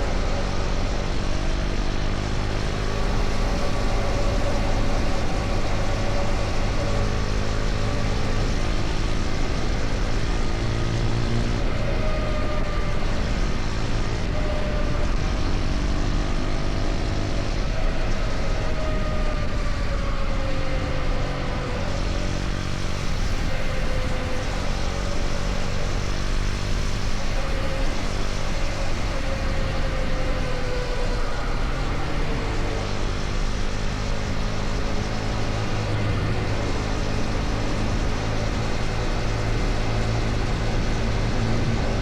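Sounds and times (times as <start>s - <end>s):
motorcycle engine cruising: 0.0s - 42.0s
wind and road noise: 0.0s - 42.0s.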